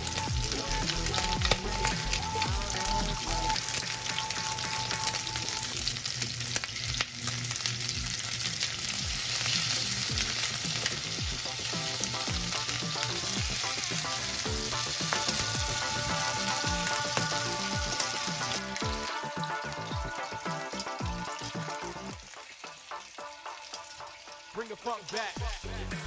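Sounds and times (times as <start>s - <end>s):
chicken sizzling in a frying pan: 0.0s - 25.9s.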